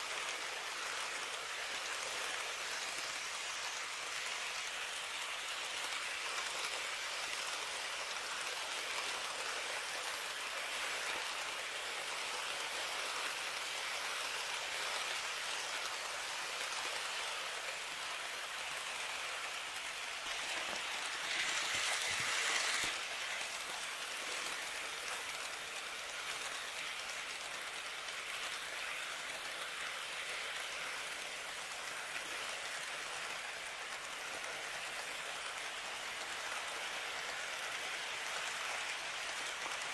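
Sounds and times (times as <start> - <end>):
model train motor running: 0.0 - 39.9
model train wheels rattling: 0.0 - 39.9.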